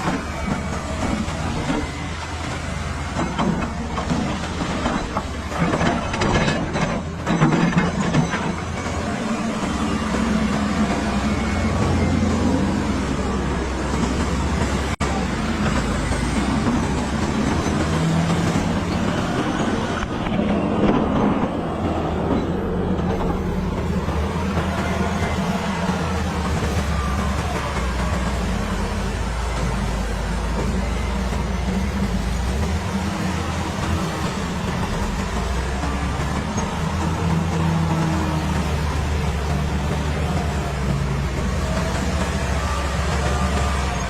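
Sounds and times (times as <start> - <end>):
bulldozer diesel engine running: 0.0 - 44.0
steel tracks clanking: 0.0 - 44.0.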